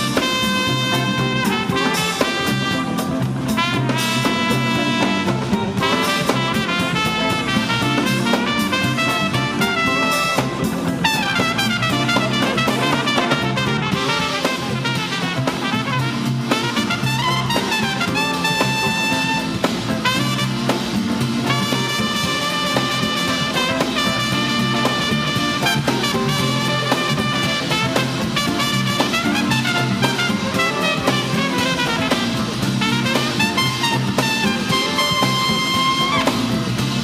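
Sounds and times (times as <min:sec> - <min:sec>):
jazz band playing: 0:00.0 - 0:37.0
trumpet lead line: 0:00.0 - 0:37.0.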